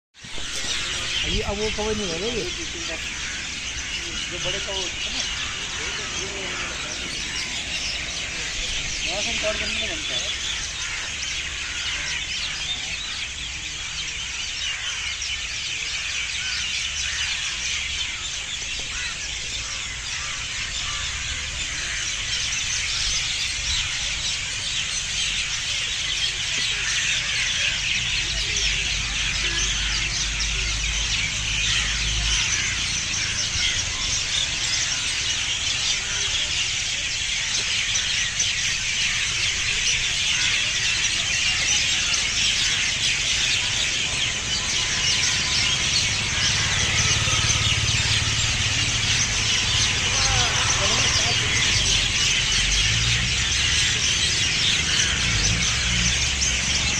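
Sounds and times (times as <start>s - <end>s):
small birds chirping: 0.2s - 56.9s.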